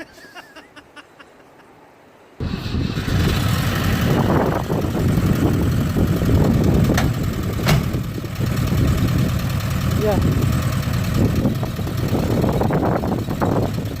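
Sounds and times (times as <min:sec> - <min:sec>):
car engine running: 0:02.4 - 0:14.0.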